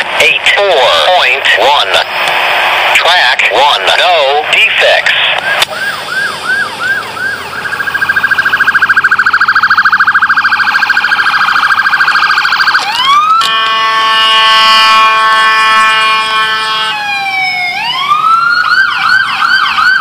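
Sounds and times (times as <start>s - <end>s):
emergency siren yelp and warble: 0.4s - 20.0s.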